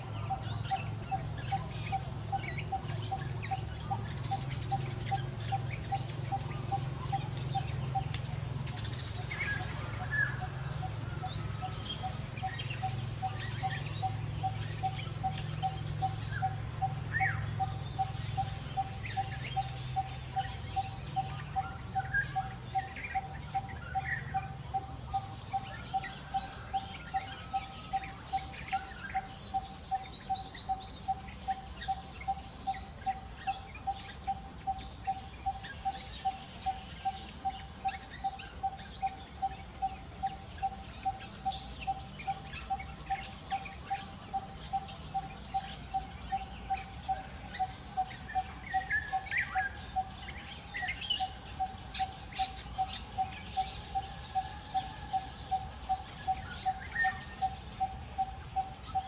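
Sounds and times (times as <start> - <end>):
high bird chirps: 0.0 - 10.6, 11.2 - 59.0
bird repeating a steady note: 0.0 - 59.0.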